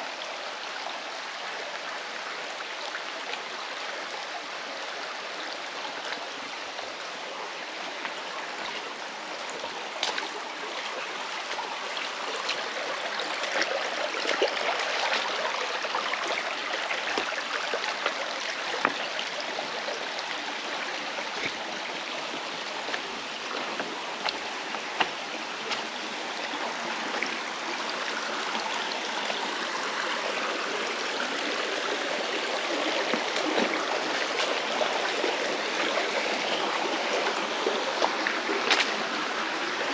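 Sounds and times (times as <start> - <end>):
mountain stream rushing: 0.0 - 39.9
water splashes: 5.2 - 39.9.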